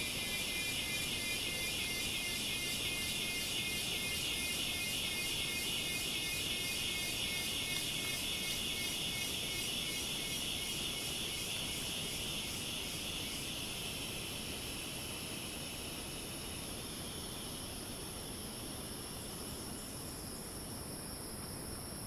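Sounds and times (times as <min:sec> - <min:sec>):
cicadas shrilling: 0:00.0 - 0:20.8.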